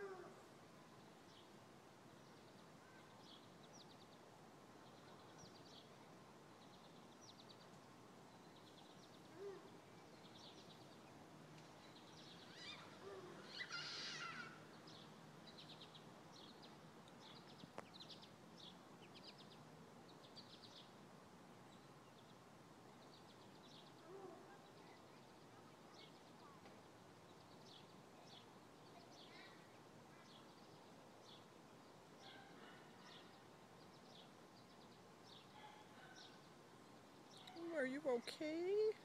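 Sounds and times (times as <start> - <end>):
low background hiss: 0.0 - 39.0
bird chirping: 2.2 - 21.0, 21.6 - 39.0.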